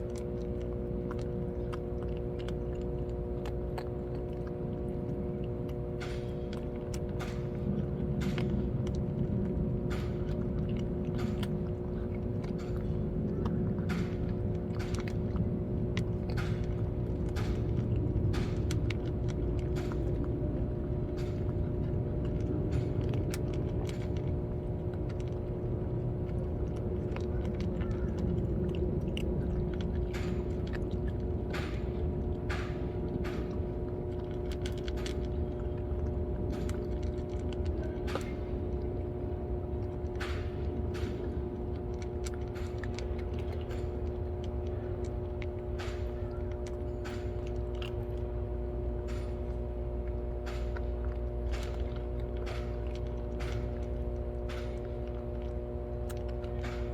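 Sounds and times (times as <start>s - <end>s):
cats chewing food crunching: 0.0s - 56.9s
low hum and rumble: 0.0s - 56.9s.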